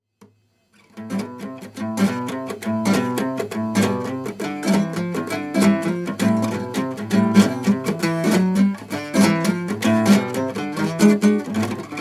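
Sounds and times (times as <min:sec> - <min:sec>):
acoustic guitar melody: 0:00.7 - 0:12.0.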